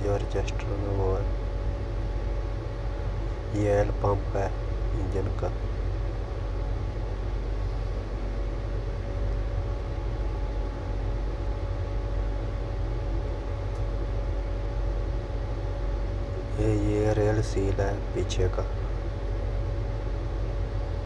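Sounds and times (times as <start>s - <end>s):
faint constant whine: 0.0s - 21.0s
machine hum and hiss: 0.0s - 21.0s.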